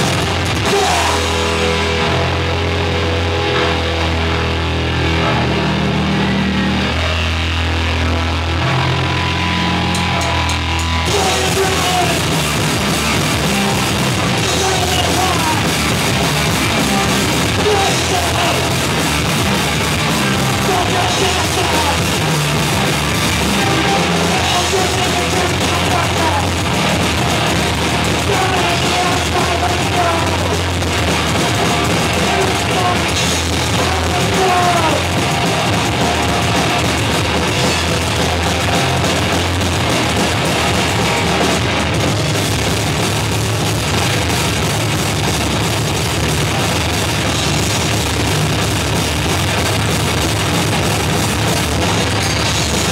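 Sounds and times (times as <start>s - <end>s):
heavy rock band playing live: 0.0s - 52.9s.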